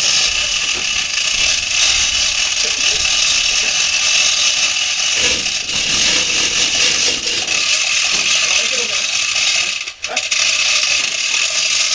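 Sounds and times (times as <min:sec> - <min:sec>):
chain hoist rattling and clicking: 0:00.0 - 0:11.9.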